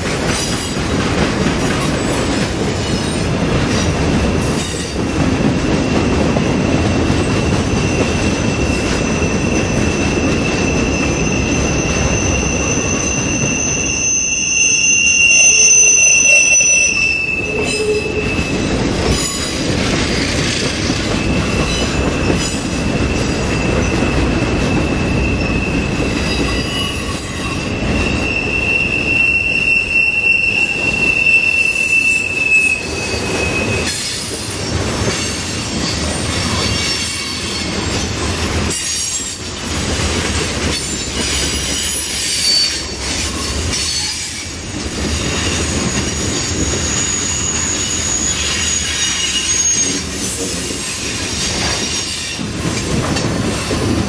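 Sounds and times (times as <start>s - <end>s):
rumble of steel wheels on rail: 0.0s - 54.0s
high thin wheel squeal: 5.9s - 39.5s, 40.8s - 52.4s.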